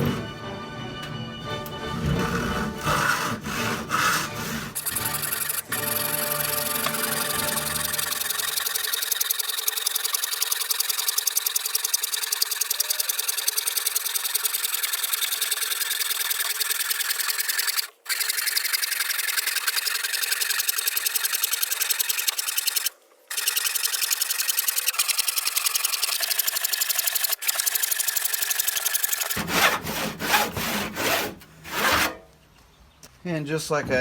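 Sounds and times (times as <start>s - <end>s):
handsaw cutting wood: 1.8s - 32.2s.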